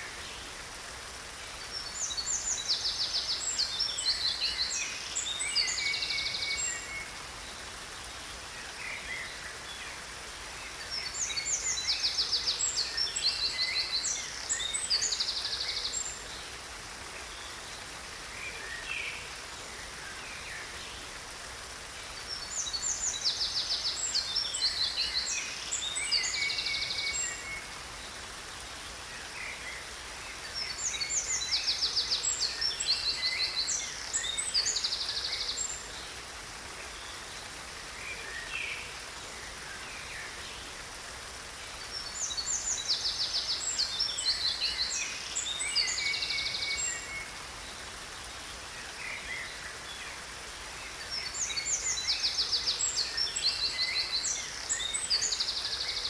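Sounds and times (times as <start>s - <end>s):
waterfall hissing: 0.0s - 56.0s.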